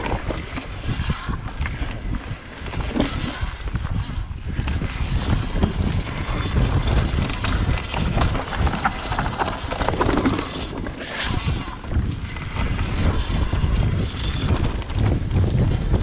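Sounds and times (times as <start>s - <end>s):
mountain bike rattling: 0.0s - 16.0s
tyres rumbling on dirt trail: 0.0s - 16.0s
wind buffeting microphone: 0.0s - 16.0s.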